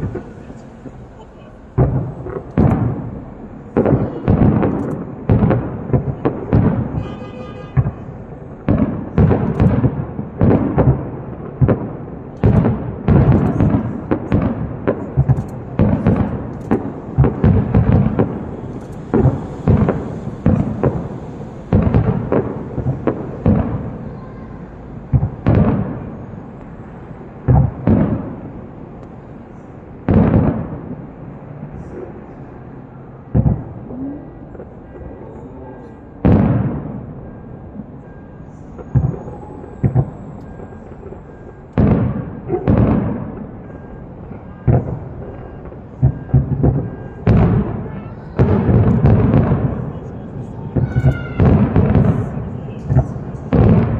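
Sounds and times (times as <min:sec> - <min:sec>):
fireworks bursting with deep booms: 0:00.0 - 0:53.9.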